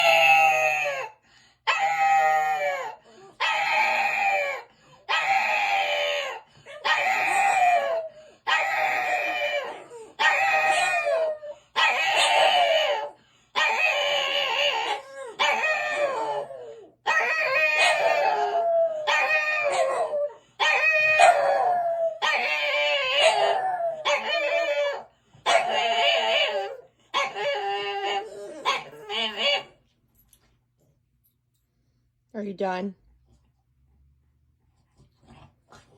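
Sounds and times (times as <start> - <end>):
dogs howling: 0.0 - 29.8.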